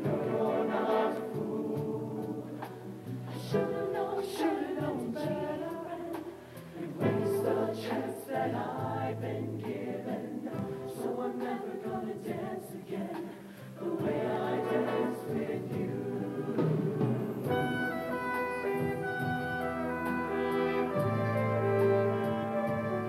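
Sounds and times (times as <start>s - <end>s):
choir singing in harmony: 0.0s - 23.0s.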